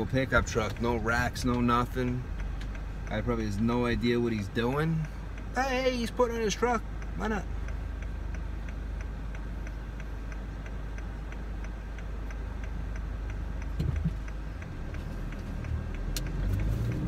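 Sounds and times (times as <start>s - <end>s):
turn signal ticking: 0.0s - 17.0s.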